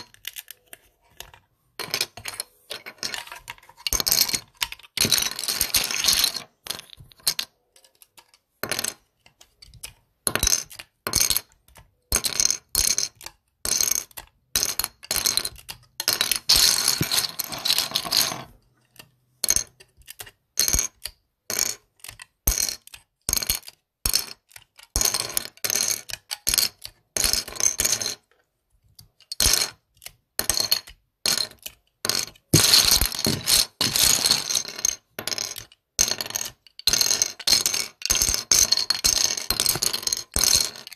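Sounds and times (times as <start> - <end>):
plastic bricks clattering: 0.0 - 28.2, 29.2 - 40.9.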